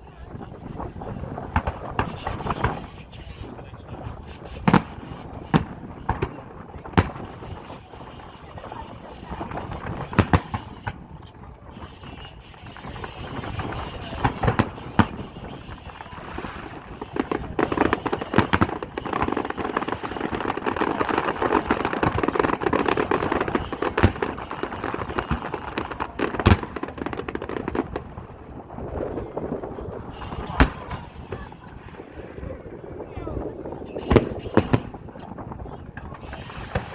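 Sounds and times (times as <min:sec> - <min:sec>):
fireworks bangs: 0:00.0 - 0:36.9
fireworks rapid crackling: 0:00.0 - 0:36.9.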